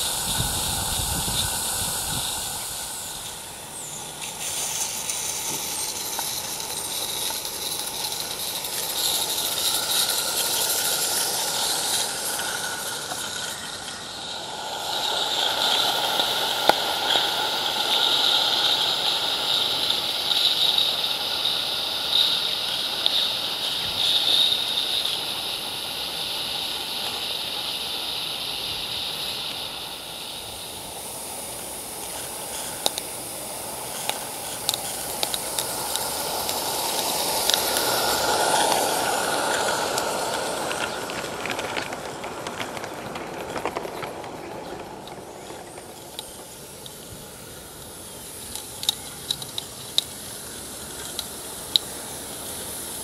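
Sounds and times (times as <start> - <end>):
steam locomotive hissing: 0.0 - 53.0.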